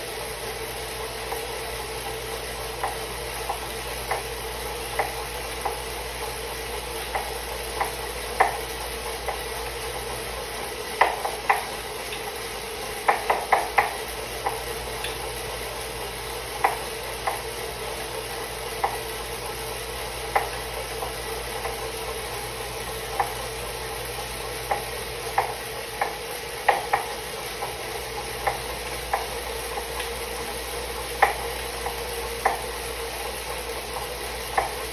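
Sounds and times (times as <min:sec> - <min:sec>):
bike trainer whirring: 0:00.0 - 0:34.9.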